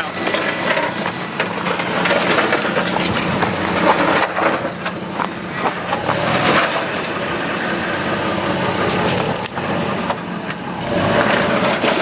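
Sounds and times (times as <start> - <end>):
truck engine running slowly: 0.0 - 12.0
tyres crunching over rocks: 0.0 - 12.0.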